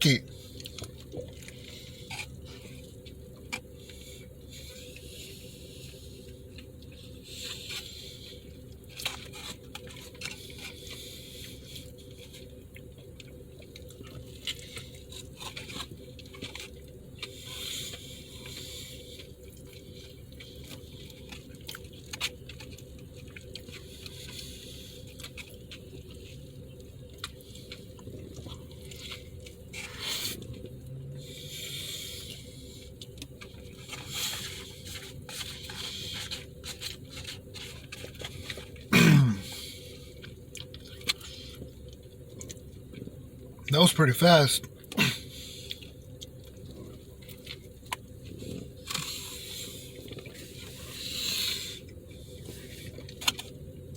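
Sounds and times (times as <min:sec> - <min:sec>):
man chewing food: 0:00.2 - 0:43.7, 0:44.6 - 0:53.9.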